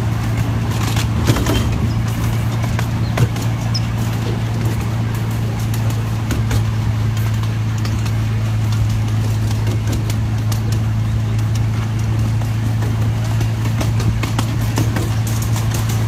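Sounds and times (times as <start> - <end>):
miniature train engine drone: 0.0 - 16.0
wheels clicking on track: 0.0 - 16.0.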